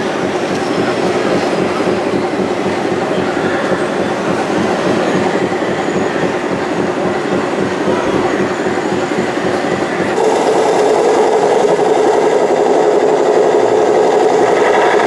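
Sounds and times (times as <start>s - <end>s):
model tractor motor rumbling: 0.0s - 15.0s.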